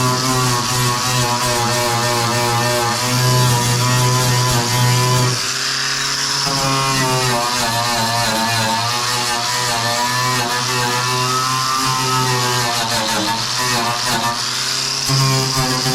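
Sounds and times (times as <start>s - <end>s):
power tool wire brush on metal: 0.0s - 15.9s.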